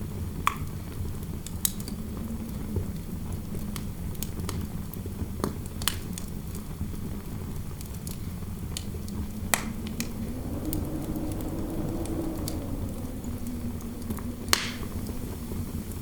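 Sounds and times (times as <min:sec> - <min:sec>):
faint howl of wind: 0:00.0 - 0:16.0
low rumble of wind: 0:00.0 - 0:16.0
fireplace crackling and popping: 0:00.4 - 0:16.0.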